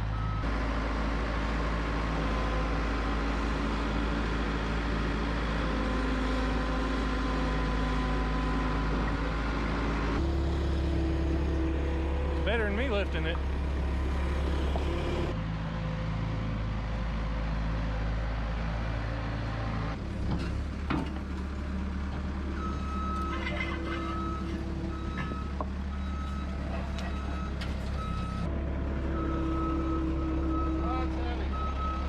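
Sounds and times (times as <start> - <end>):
skid steer engine running: 0.0 - 32.0.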